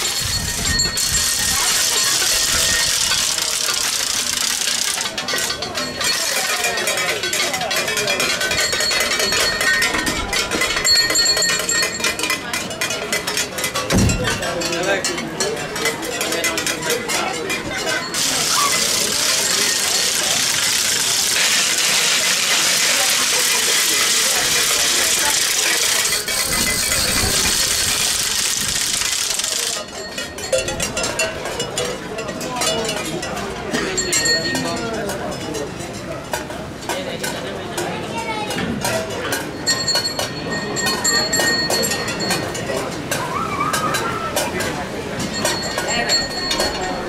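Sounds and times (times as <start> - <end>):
metal bells jangling: 0.0 - 36.1, 38.8 - 43.1, 44.6 - 47.0
cowbells: 0.0 - 47.0.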